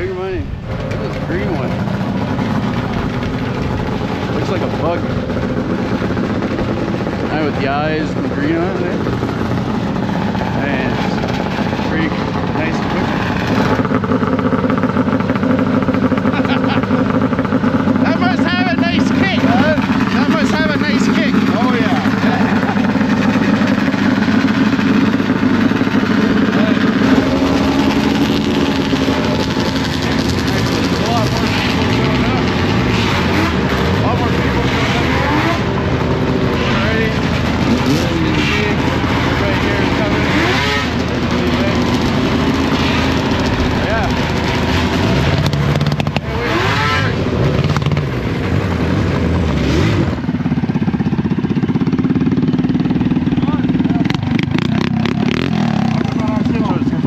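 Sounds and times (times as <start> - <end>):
snowmobile engine idling: 0.0 - 57.0.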